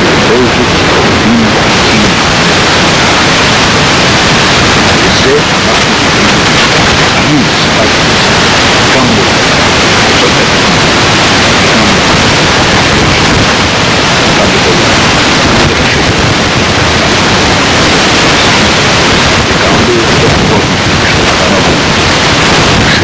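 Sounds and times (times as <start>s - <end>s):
faint voice: 0.0s - 3.4s, 4.8s - 16.6s, 17.4s - 23.0s
loud recording hiss: 0.0s - 23.0s.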